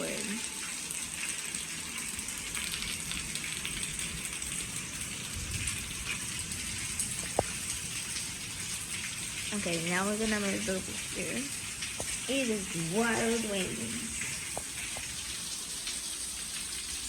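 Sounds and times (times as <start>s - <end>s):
falling water hiss: 0.0s - 17.0s.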